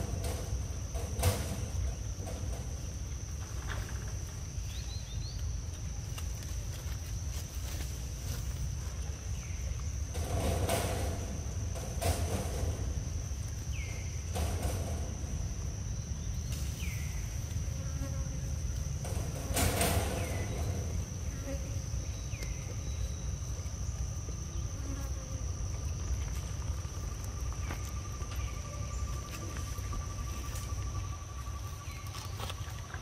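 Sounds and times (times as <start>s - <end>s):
insects droning: 0.0s - 33.0s
low outdoor rumble: 0.0s - 33.0s.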